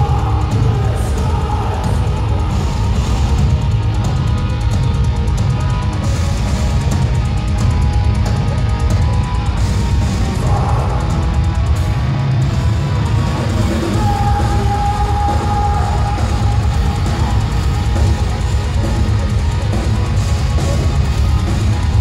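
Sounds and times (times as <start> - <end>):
metal band playing live: 0.0 - 22.0.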